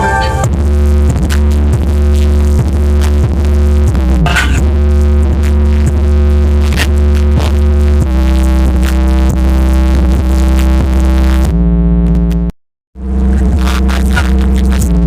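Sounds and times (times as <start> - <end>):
loud electronic music: 0.0 - 15.0.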